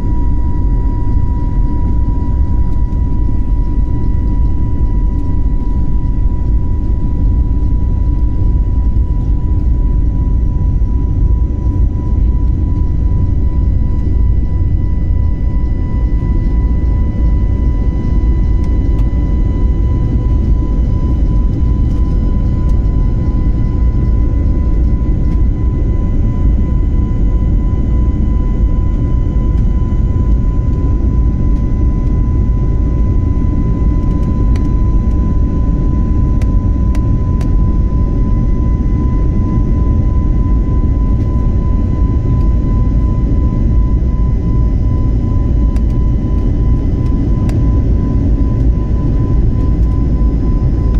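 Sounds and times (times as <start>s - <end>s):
airliner engine and airflow rumble: 0.0s - 50.9s
constant high-pitched tone: 0.0s - 50.9s.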